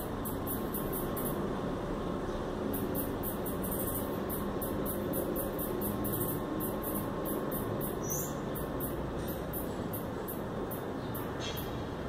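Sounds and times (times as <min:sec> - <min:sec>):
insect chirping: 0:00.0 - 0:01.5, 0:02.7 - 0:11.3.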